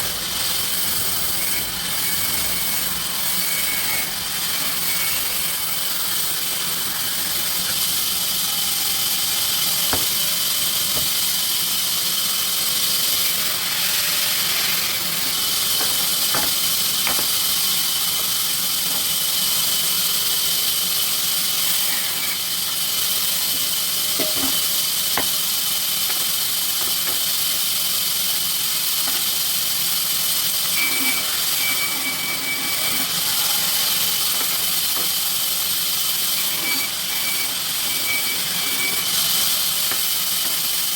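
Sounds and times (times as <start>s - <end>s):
sawmill machinery whining: 0.0s - 40.9s.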